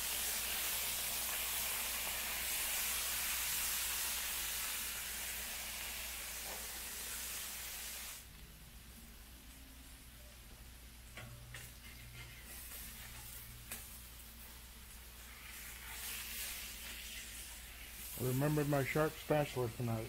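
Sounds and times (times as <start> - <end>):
meat and onions sizzling on griddle: 0.0 - 8.3, 10.2 - 20.0.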